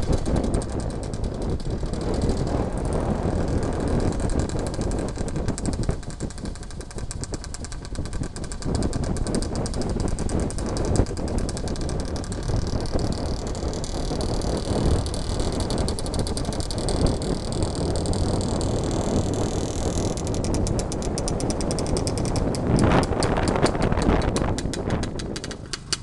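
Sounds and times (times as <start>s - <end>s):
road rumble: 0.0s - 26.0s.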